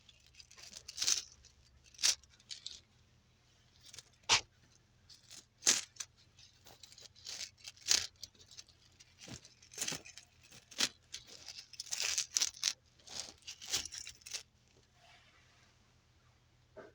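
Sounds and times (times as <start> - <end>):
irregular clicks and crackles: 0.0 - 3.0, 3.8 - 14.9.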